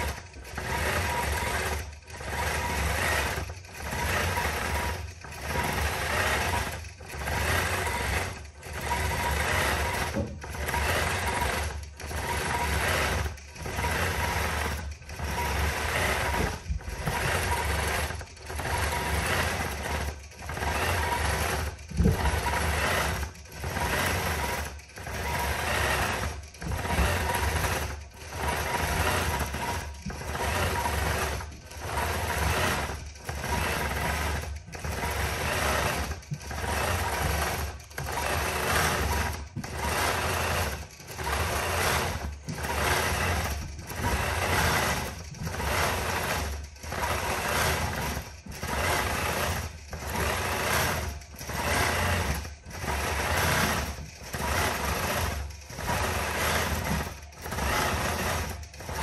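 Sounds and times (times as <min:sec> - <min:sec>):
quilting machine stitching: 0:00.0 - 0:59.0.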